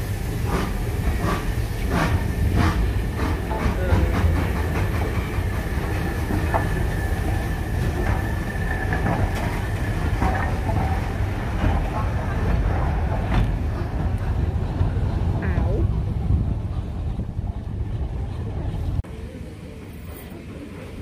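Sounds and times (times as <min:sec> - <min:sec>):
steam locomotive rumble: 0:00.0 - 0:21.0.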